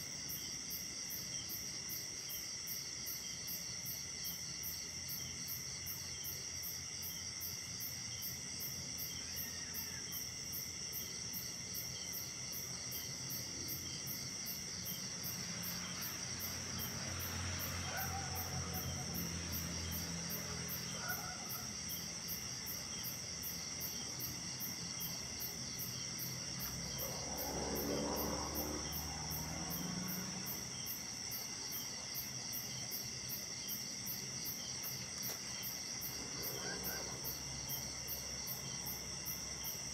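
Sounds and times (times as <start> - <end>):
crickets and insects trilling: 0.0 - 39.9
insect pulsing rhythmically: 0.0 - 39.9.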